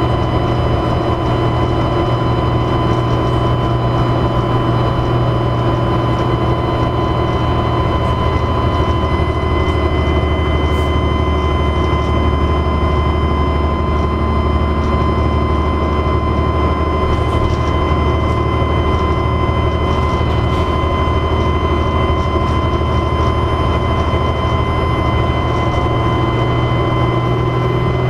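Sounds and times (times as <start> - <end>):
bus engine drone: 0.0 - 28.0
turbocharger whine: 0.0 - 28.0.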